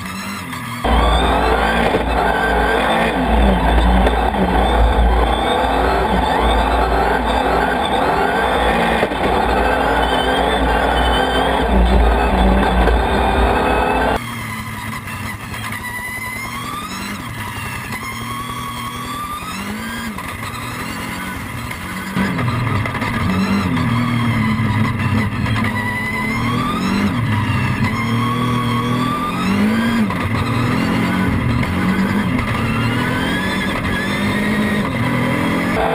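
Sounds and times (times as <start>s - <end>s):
race car engine revving through gears: 0.0s - 35.9s.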